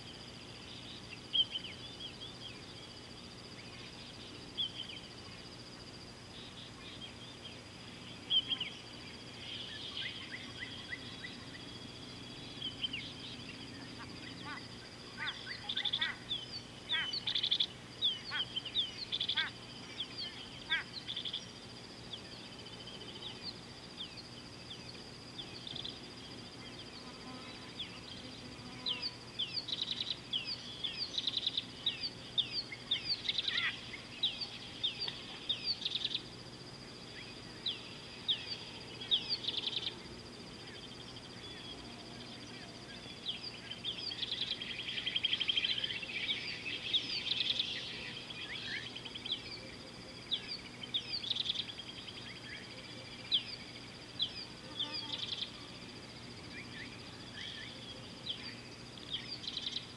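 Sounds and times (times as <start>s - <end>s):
birds chirping: 0.0s - 59.9s
steady high-pitched whine: 0.0s - 59.9s.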